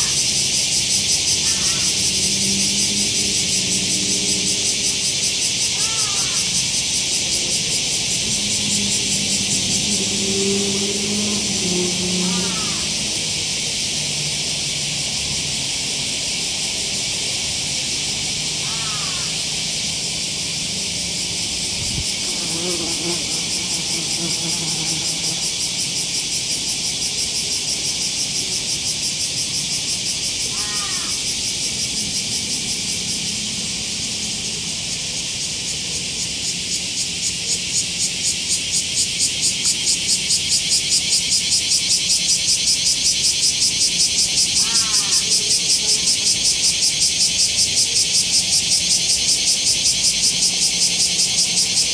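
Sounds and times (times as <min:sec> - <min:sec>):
cicadas buzzing: 0:00.0 - 0:51.9.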